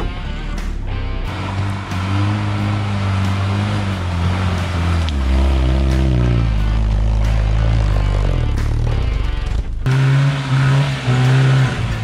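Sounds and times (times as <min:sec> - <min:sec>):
car engine pulling uphill: 0:00.0 - 0:12.0.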